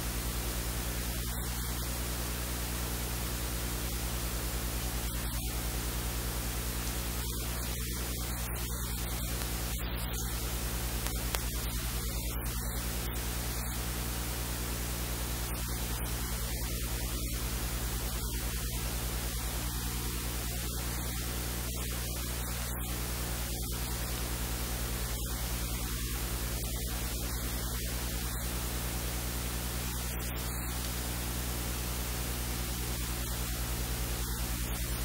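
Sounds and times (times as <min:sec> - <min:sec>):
low electrical hum: 0:00.0 - 0:35.0
steady hiss: 0:00.0 - 0:35.0.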